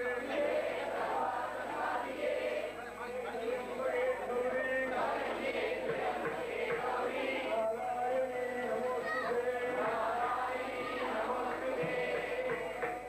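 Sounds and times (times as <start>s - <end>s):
many voices chanting together: 0.0s - 2.8s, 4.8s - 13.0s.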